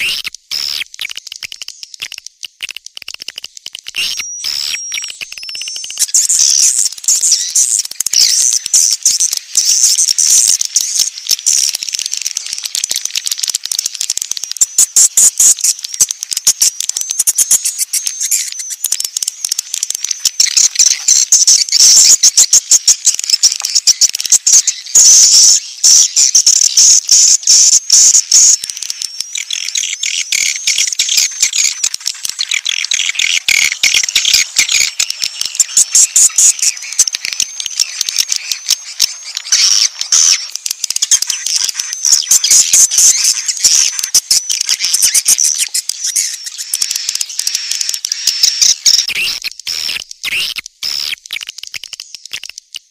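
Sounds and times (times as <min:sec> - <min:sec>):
swiftlets twittering: 0:00.0 - 0:52.9.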